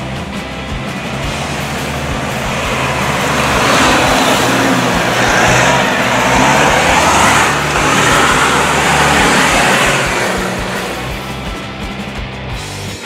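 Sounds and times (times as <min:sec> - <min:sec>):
pickup truck driving past: 0:00.0 - 0:12.6.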